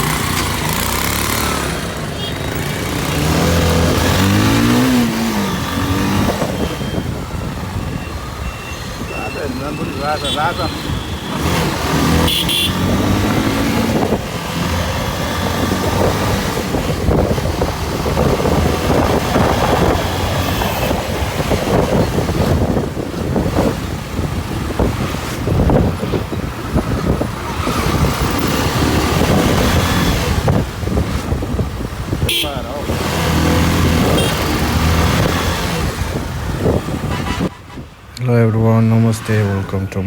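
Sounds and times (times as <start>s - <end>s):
motorcycle engine hum: 0.0s - 37.5s
wind noise on microphone: 3.2s - 10.0s, 10.7s - 38.1s.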